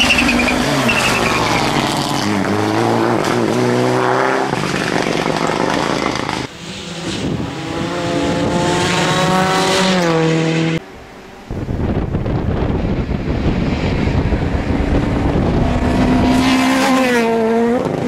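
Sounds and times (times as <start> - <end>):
rally car engines accelerating hard: 0.0 - 10.8, 11.8 - 18.0.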